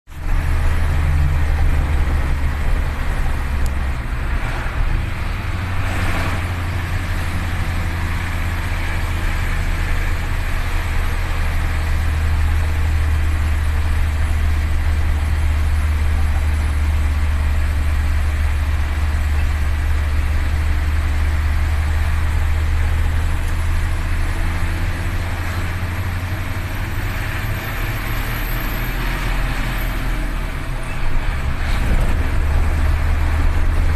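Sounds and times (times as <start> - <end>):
road noise: 0.0 - 33.9
vehicle engine drone: 0.0 - 33.9.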